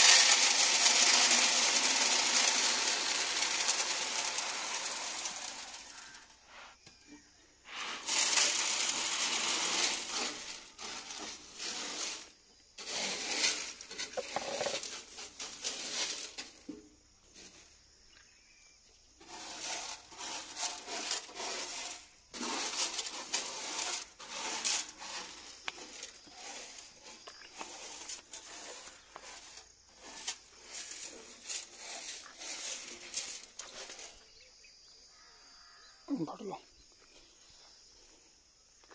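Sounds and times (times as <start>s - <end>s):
grain pouring into metal hopper: 0.0s - 6.4s, 7.7s - 17.7s, 19.2s - 34.4s
grain raked by hand: 0.0s - 6.8s, 7.6s - 17.8s, 19.2s - 34.4s.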